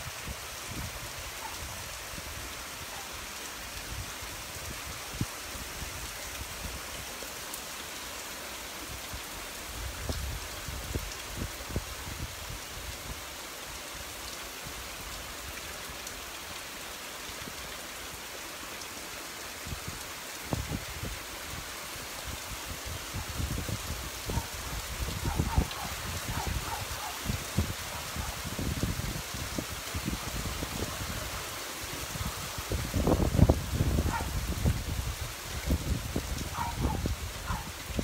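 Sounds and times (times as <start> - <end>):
heavy rain on pavement: 0.0 - 38.0.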